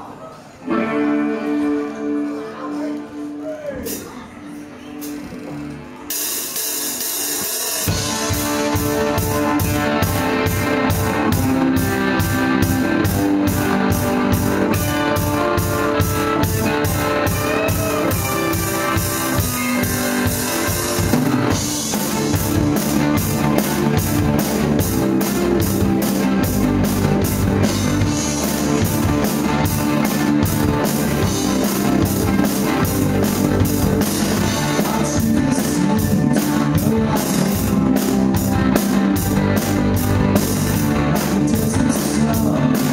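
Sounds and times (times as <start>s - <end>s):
electric guitars: 0.5s - 42.9s
bass guitar: 0.6s - 6.7s, 7.3s - 42.9s
drum kit: 4.9s - 42.9s.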